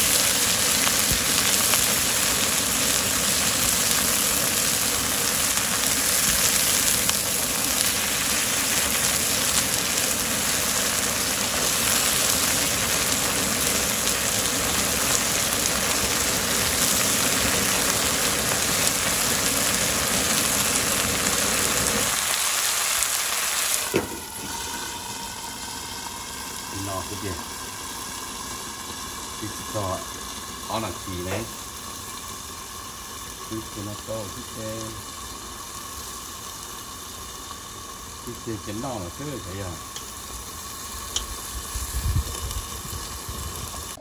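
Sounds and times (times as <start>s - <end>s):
greens sizzling in a pan: 0.0s - 44.0s.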